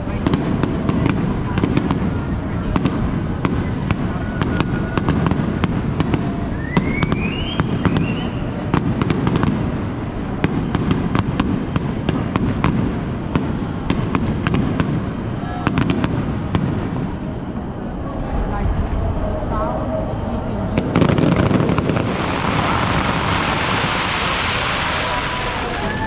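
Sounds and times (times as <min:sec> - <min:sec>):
fireworks cracking and popping: 0:00.0 - 0:17.6, 0:20.8 - 0:26.0
low rumble of fireworks bursts: 0:00.0 - 0:26.0
rising firework whistle: 0:00.3 - 0:09.4, 0:13.2 - 0:26.0.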